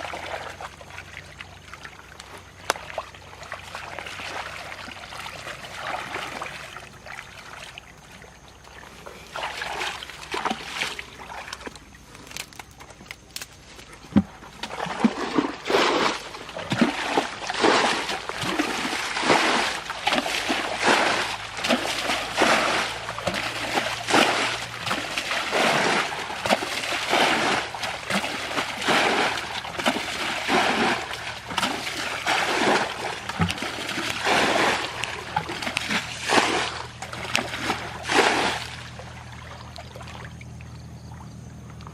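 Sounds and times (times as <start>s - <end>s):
water splashing and sloshing: 0.0s - 41.9s.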